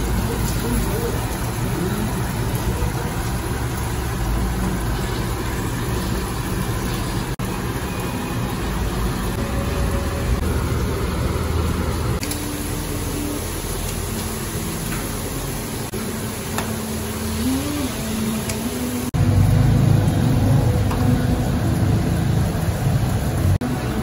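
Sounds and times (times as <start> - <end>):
kitchen low rumble with hiss: 0.0 - 24.0.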